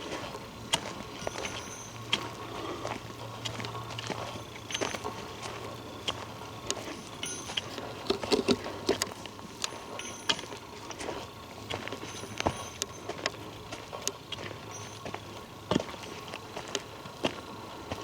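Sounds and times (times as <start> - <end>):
footsteps on a trail: 0.0 - 18.0.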